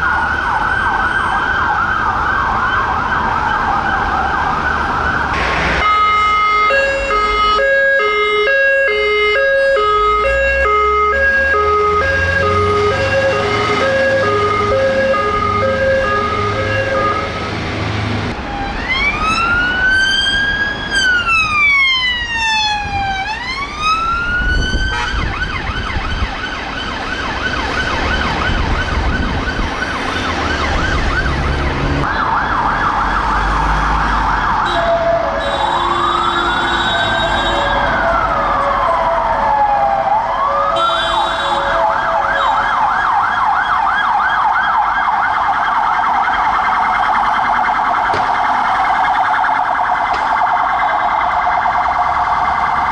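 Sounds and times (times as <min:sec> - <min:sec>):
fire engine siren wailing and yelping: 0:00.0 - 0:52.9
police sirens yelping and wailing: 0:00.0 - 0:52.9.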